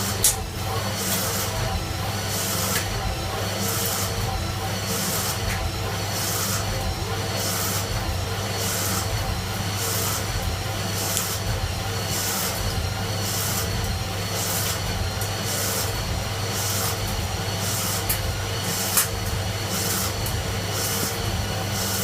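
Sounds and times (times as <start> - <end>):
machine tool humming: 0.0 - 22.0.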